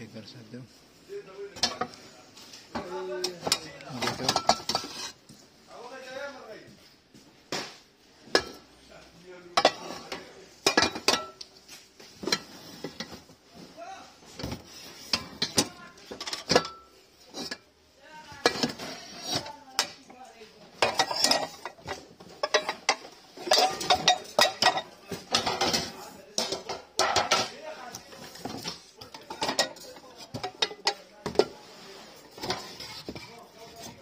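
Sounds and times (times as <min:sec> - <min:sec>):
metal pots and pans clattering: 0:01.5 - 0:05.3, 0:07.5 - 0:08.8, 0:09.5 - 0:13.6, 0:14.3 - 0:34.0.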